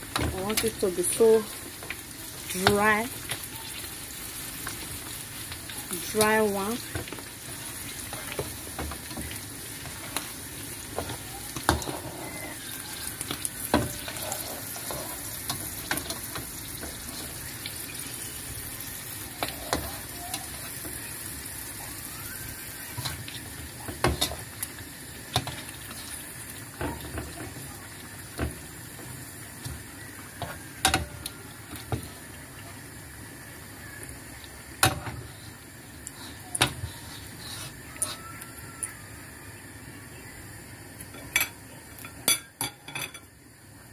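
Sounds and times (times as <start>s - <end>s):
chicken sizzling in hot oil: 0.0s - 43.9s.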